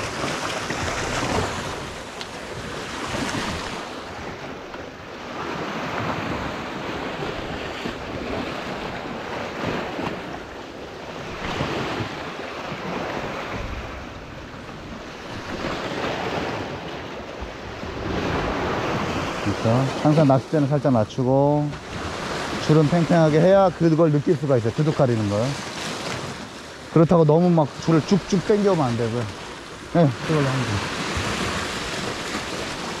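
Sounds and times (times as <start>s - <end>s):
waves washing against rocks: 0.0s - 33.0s.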